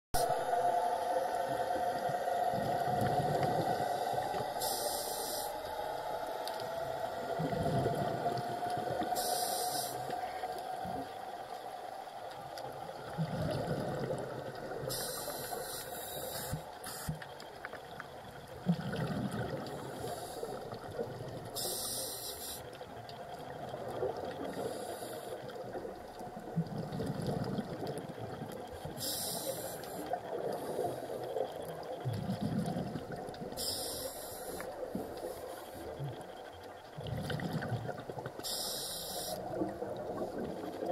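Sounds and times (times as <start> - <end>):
low underwater rumble: 0.2 - 40.9.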